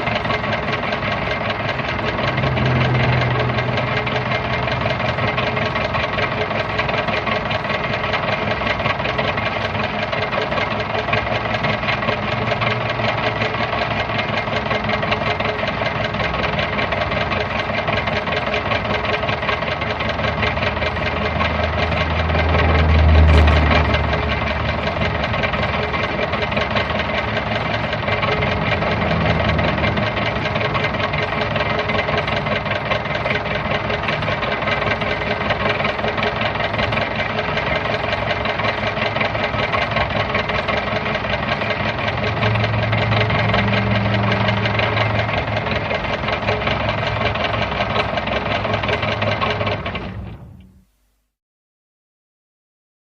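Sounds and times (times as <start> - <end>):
car engine idling: 0.0 - 51.1.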